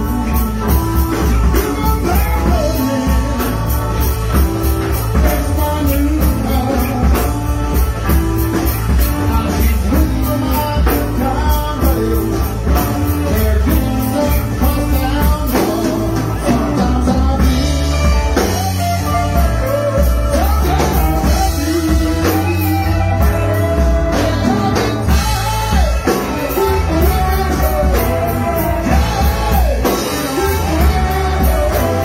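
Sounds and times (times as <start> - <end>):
bass guitar: 0.0 - 32.0
drum kit: 0.0 - 32.0
electric guitars: 0.0 - 32.0
keyboard: 0.0 - 32.0
man singing lead: 0.0 - 32.0.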